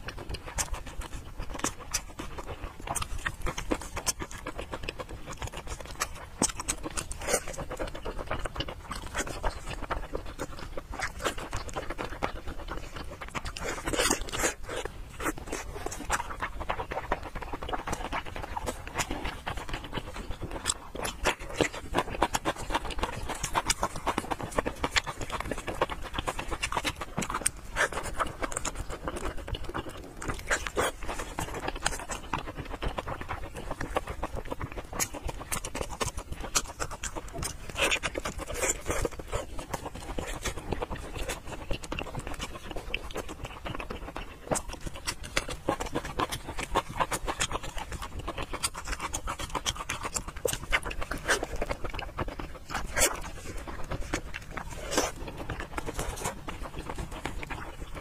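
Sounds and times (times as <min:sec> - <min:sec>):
chewing and lip smacking: 0:00.0 - 0:58.0.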